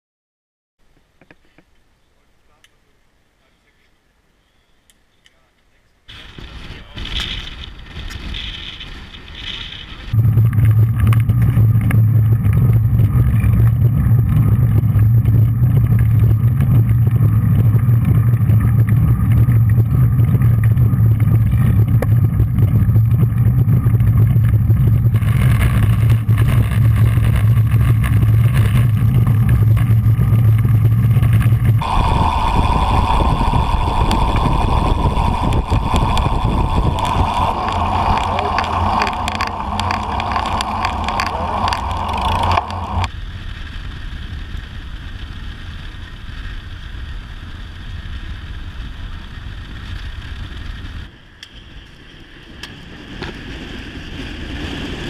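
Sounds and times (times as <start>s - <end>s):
road noise: 5.0s - 55.0s
rumbling wind noise: 6.1s - 55.0s.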